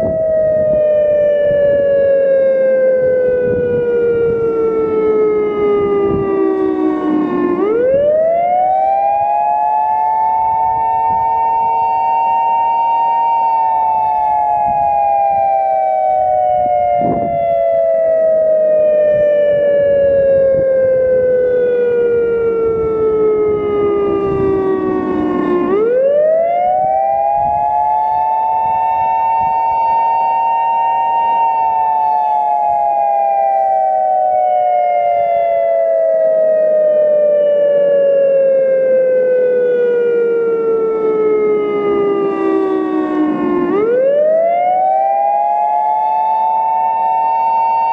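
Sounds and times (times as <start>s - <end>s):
siren wailing: 0.0s - 47.9s.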